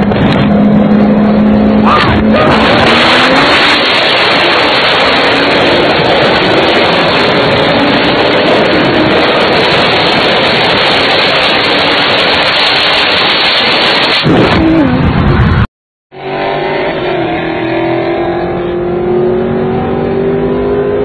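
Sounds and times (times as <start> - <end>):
racing car engines at full throttle: 0.0 - 21.0
wind and road noise: 0.0 - 21.0.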